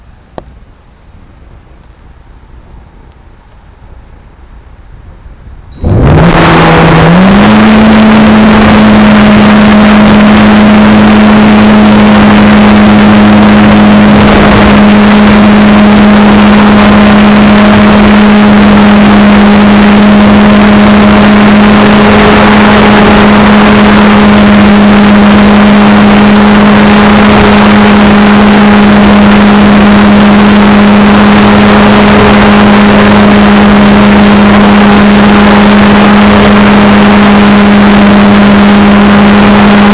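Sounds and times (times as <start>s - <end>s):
model airplane motor and propeller: 7.7s - 39.9s.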